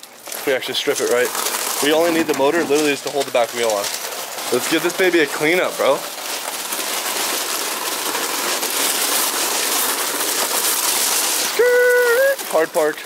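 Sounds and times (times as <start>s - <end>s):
footsteps crunching on gravel: 0.0s - 13.0s
scooter tyres on gravel: 0.0s - 13.0s.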